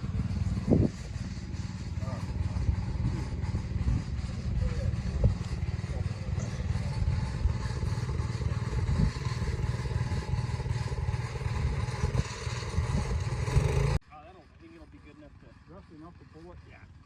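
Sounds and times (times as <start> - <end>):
engine pulsing rumble: 0.0 - 17.0.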